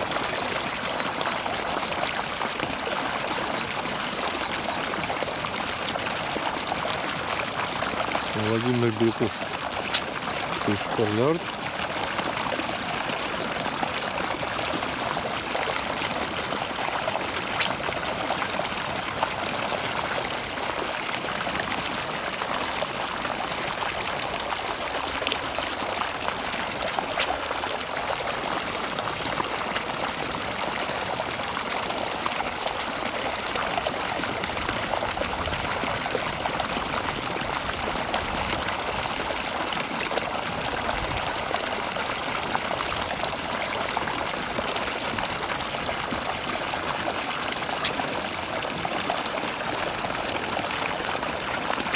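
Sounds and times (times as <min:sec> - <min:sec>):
running water: 0:00.0 - 0:51.9.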